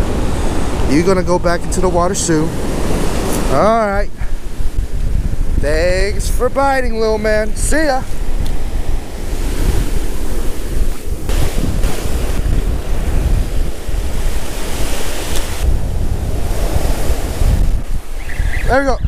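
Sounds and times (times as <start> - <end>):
ocean surf washing up beach: 0.0 - 19.0
wind buffeting microphone: 0.0 - 19.0.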